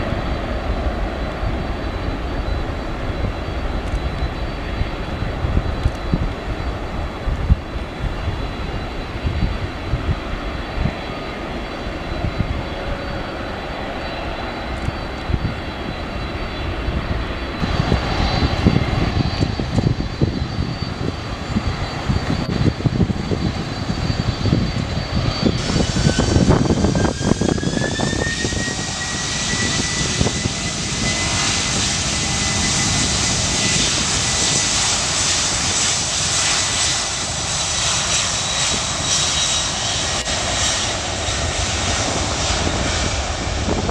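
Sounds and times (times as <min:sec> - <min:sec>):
jet engines whining: 0:00.0 - 0:43.9.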